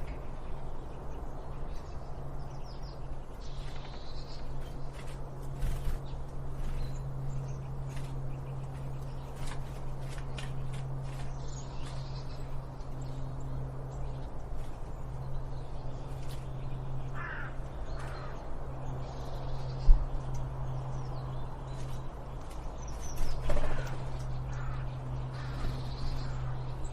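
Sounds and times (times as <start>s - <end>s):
birds calling: 0.0s - 26.9s
steady low hum: 0.0s - 26.9s.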